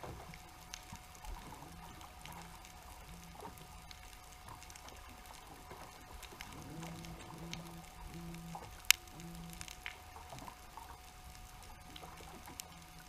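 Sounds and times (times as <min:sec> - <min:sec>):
faint short low hums: 0:00.0 - 0:13.0
sharp clicks and crackles: 0:00.0 - 0:13.0.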